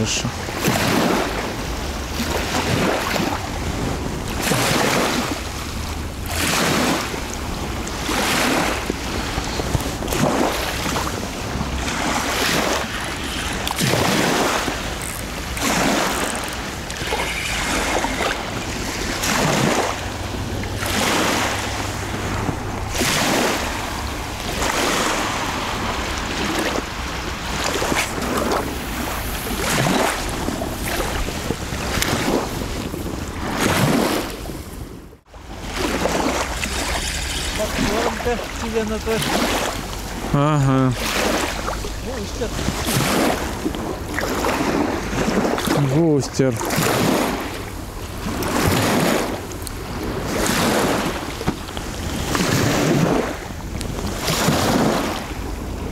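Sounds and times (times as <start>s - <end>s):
small waves washing against bank: 0.0s - 55.9s
wind rumbling on microphone: 0.0s - 55.9s.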